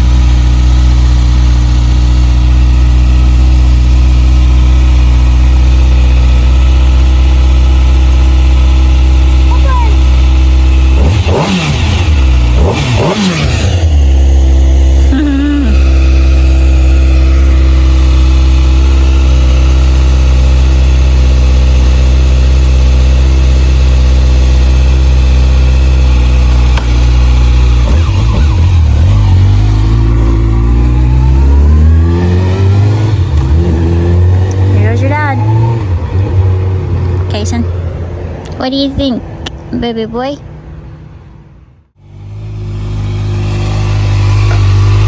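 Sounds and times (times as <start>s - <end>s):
vehicle engine idling and revving: 0.0s - 45.0s.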